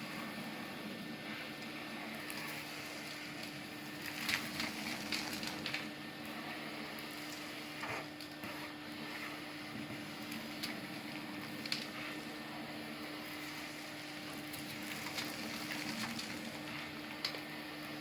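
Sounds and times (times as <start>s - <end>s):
vacuum cleaner running: 0.0s - 18.0s
debris crackling in hose: 1.2s - 8.6s, 9.2s - 17.5s.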